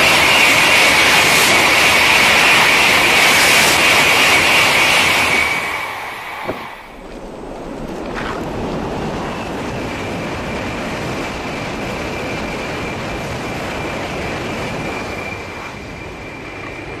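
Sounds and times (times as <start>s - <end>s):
bullet train rushing past: 0.0s - 17.0s.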